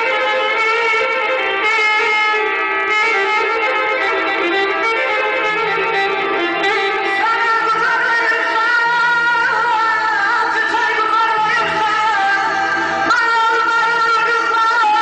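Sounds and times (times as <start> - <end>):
button accordion melody: 0.0 - 15.0.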